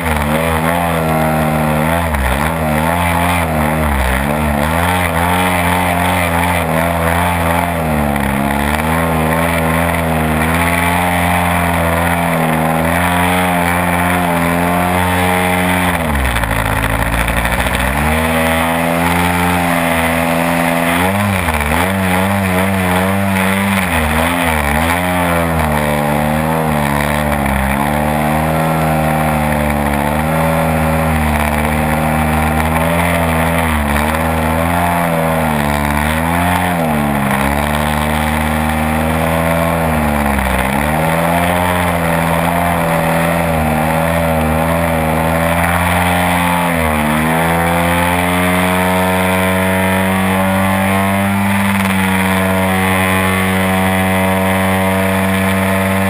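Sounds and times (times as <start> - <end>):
small plane engine running: 0.0 - 56.0.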